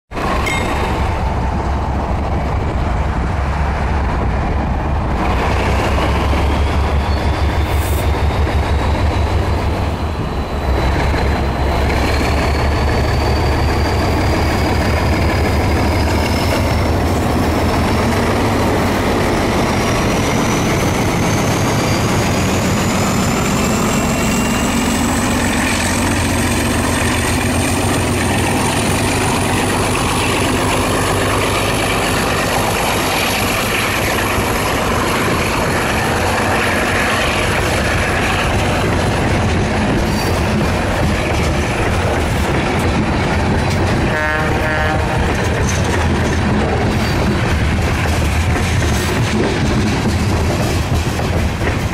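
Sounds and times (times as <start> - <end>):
diesel locomotive rumbling: 0.1 - 51.9
rail cars rolling by: 0.1 - 51.9.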